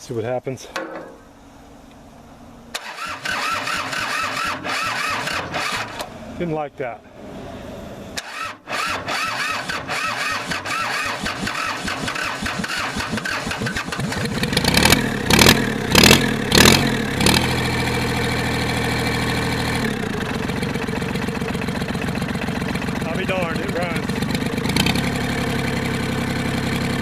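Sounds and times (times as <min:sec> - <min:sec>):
diesel engine running: 0:01.3 - 0:27.0
diesel engine cranking on starter: 0:02.7 - 0:27.0.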